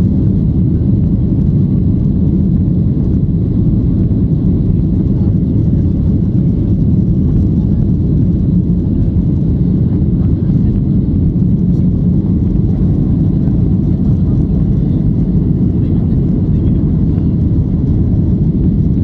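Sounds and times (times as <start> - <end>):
airflow around airframe: 0.0 - 19.0
jet engines in cabin: 0.0 - 19.0.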